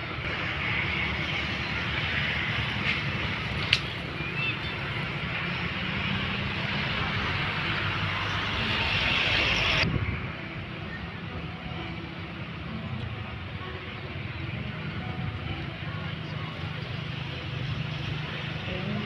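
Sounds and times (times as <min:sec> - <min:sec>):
steady outdoor rumble and hiss: 0:00.0 - 0:19.0.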